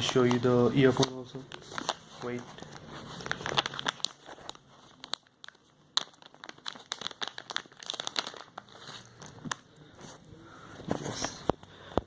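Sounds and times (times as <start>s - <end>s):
packaging crinkling: 0.0s - 10.3s.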